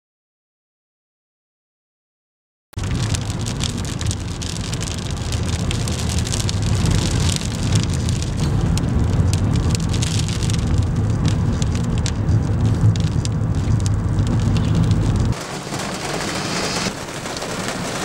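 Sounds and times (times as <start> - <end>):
car driving rumble: 2.8 - 18.0
heavy rain on car windscreen: 2.8 - 18.0.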